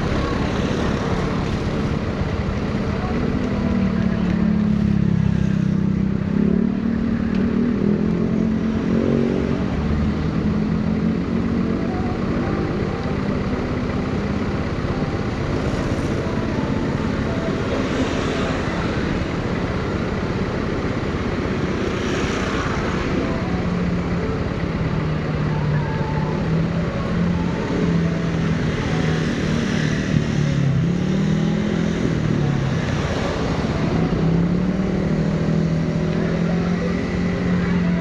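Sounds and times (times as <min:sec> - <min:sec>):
motorcycle engine rumbling: 0:00.0 - 0:38.0.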